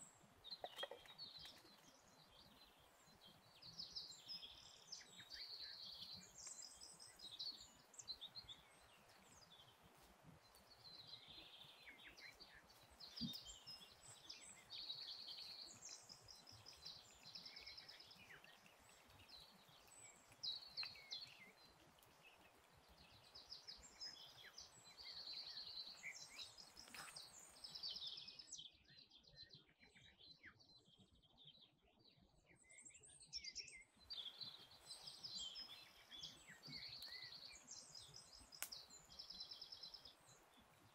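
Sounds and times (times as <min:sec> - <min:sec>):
faint songbirds chirping: 0:00.0 - 0:40.9.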